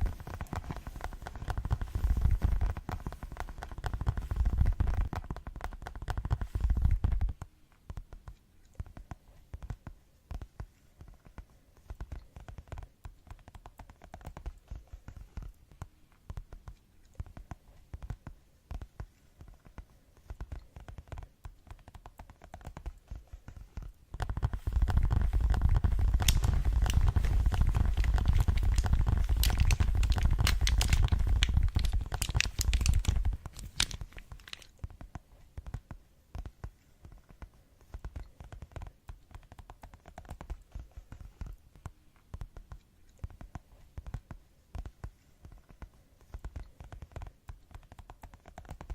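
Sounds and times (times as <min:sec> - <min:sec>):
rapid light tapping: 0:00.0 - 0:48.9.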